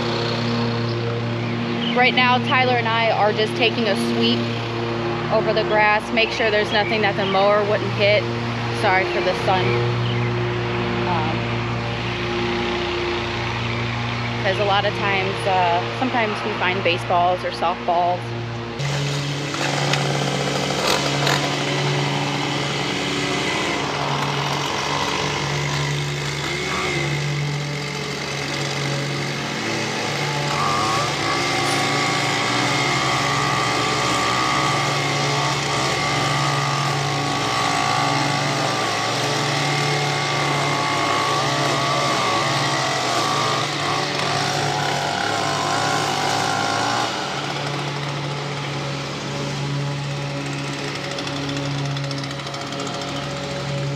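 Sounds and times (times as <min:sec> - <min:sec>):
small gas engine running: 0:00.0 - 0:53.9.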